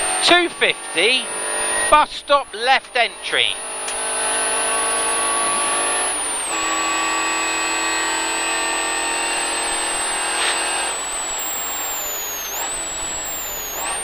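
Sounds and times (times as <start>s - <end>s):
car engine revving: 0.0s - 14.0s
thin high whine: 0.0s - 14.0s.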